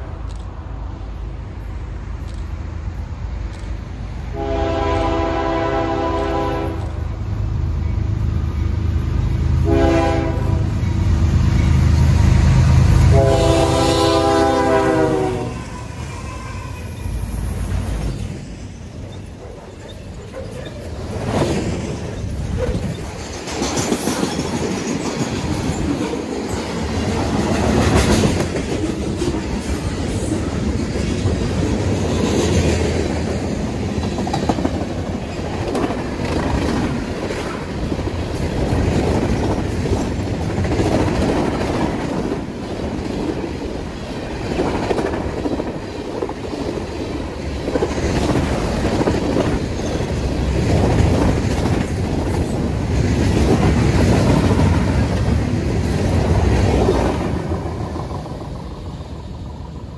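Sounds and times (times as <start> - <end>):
freight train wheels clattering: 2.2 - 59.9.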